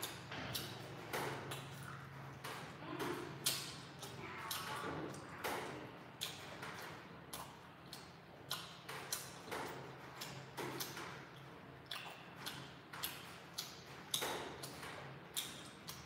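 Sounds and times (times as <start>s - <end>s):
dried fish being chewed crunchily: 0.0s - 16.0s.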